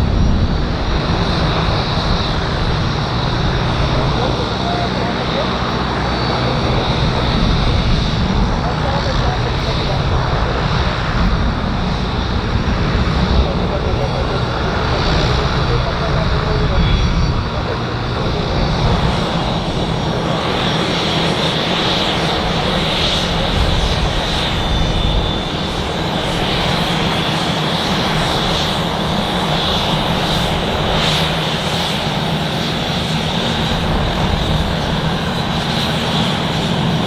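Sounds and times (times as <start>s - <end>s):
aircraft engine running: 0.0s - 37.0s.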